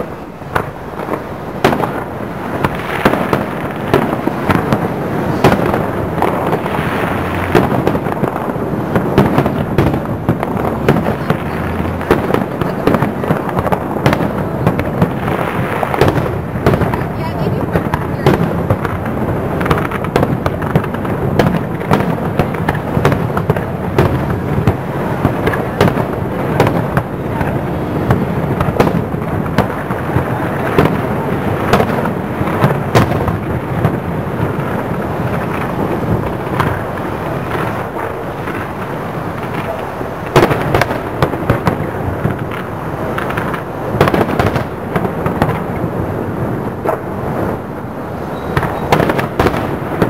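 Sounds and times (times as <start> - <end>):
fireworks shells bursting: 0.0 - 45.9, 46.8 - 50.0.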